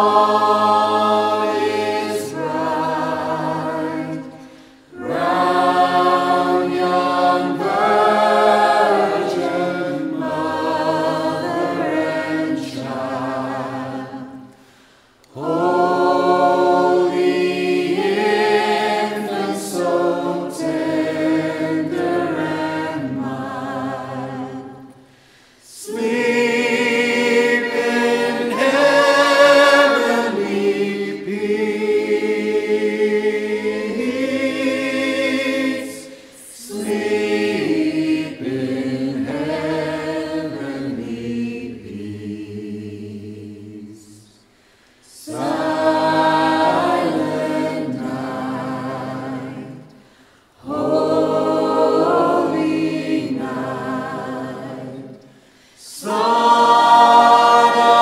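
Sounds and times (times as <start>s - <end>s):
choir singing unaccompanied: 0.0s - 58.0s.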